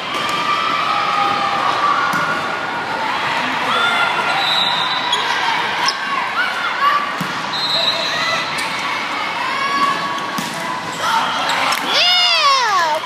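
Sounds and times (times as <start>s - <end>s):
spectators chattering: 0.0s - 13.0s.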